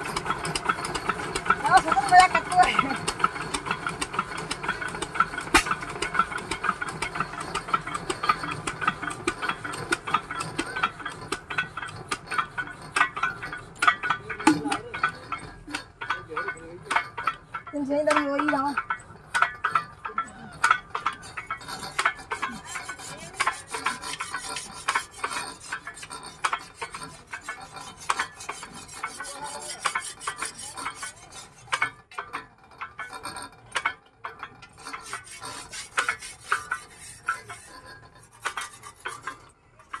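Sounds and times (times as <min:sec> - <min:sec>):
diesel engine clattering: 0:00.0 - 0:40.0.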